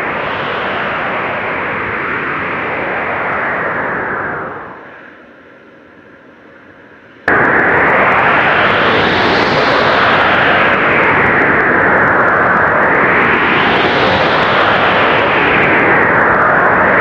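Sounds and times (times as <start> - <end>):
blizzard wind gusting: 0.0 - 6.1, 7.3 - 17.0.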